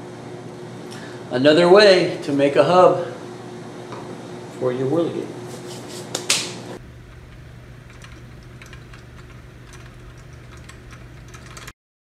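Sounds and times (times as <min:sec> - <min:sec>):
electric fan humming: 0:00.0 - 0:11.8.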